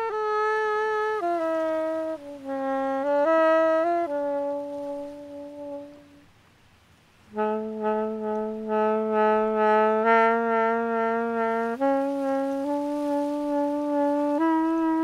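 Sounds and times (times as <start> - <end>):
solo saxophone melody: 0.0 - 15.0.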